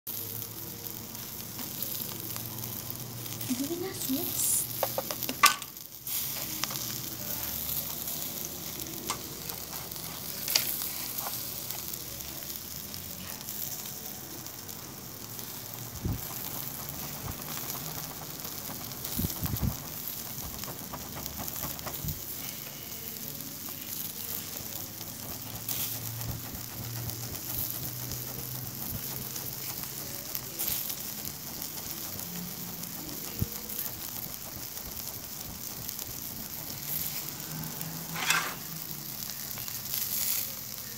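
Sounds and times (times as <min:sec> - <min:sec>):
meat sizzling on grill: 0:00.1 - 0:40.9
sharp crackles: 0:00.1 - 0:40.9.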